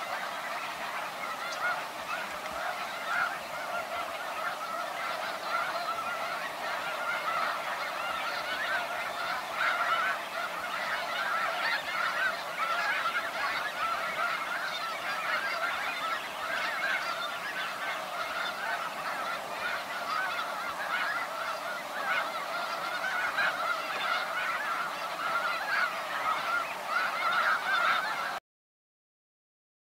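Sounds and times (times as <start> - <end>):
flock of geese honking: 0.0 - 28.4.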